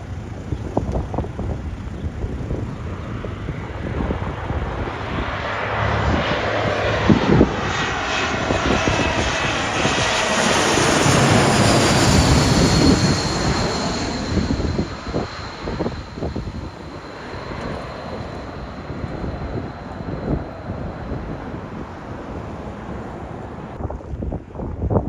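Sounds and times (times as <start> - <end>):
airliner passing: 0.0 - 24.8.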